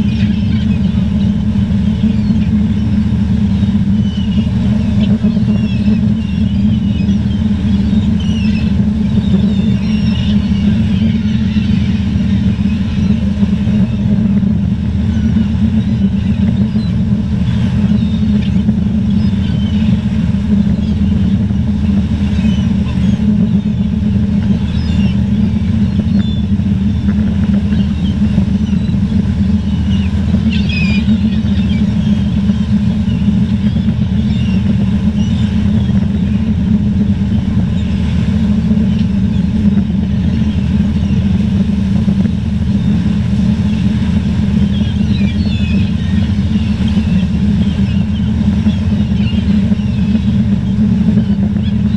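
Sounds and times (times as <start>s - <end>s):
loud low rumble: 0.0s - 51.9s
seagulls calling: 0.0s - 51.9s.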